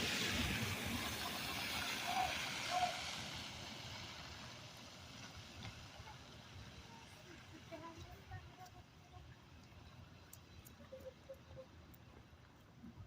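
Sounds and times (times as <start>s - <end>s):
bus driving on slushy road: 0.0s - 10.6s.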